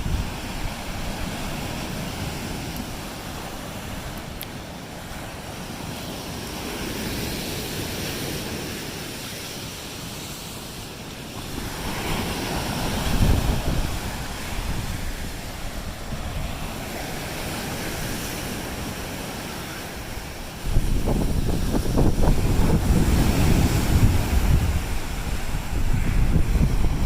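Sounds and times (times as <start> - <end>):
waves washing onto shore: 0.0 - 27.0
wind rumbling on microphone: 0.0 - 27.0.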